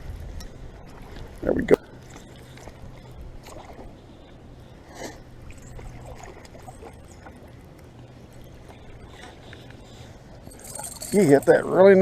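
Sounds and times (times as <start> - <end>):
low steady hum: 0.0 - 12.0
water splashing and trickling: 0.0 - 12.0.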